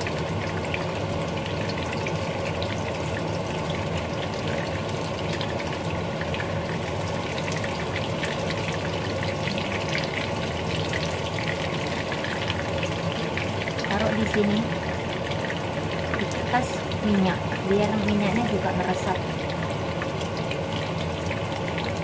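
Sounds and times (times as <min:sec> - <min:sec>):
fritters sizzling in oil: 0:00.0 - 0:22.0.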